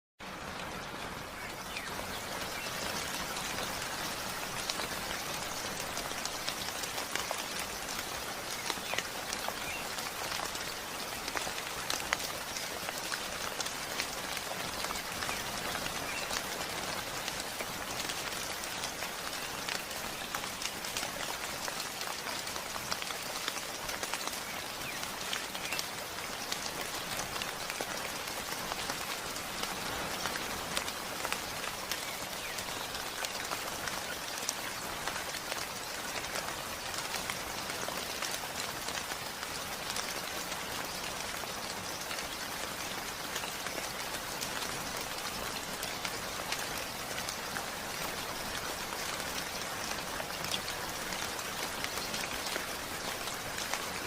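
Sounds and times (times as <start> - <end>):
heavy rain pattering: 0.2 - 54.0.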